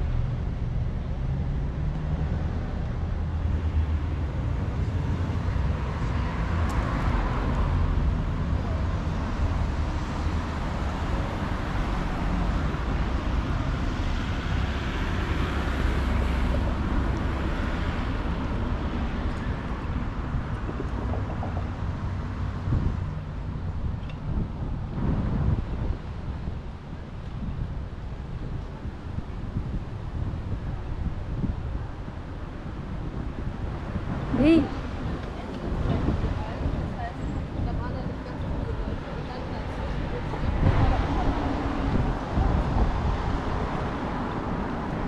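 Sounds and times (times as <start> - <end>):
road traffic: 0.0 - 45.0
wind on microphone: 0.0 - 45.0.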